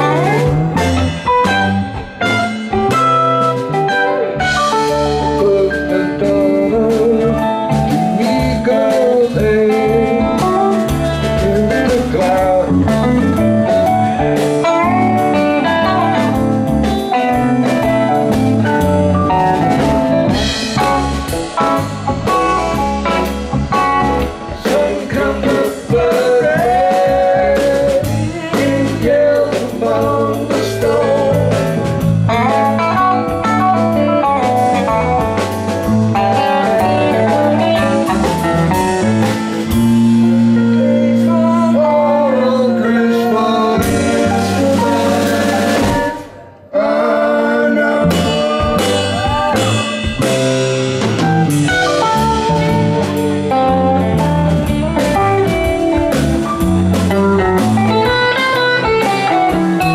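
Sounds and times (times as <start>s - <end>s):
drum kit: 0.0s - 46.7s, 47.8s - 59.9s
electric bass: 0.0s - 46.7s, 47.6s - 59.9s
electric guitar lead lines: 0.0s - 46.7s, 48.0s - 59.9s.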